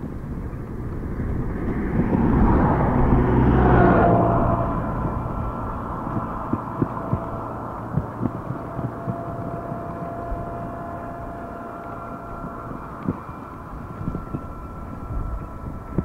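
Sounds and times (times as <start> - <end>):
wind noise on microphone: 0.0 - 16.0
vehicle passing by: 0.6 - 16.0.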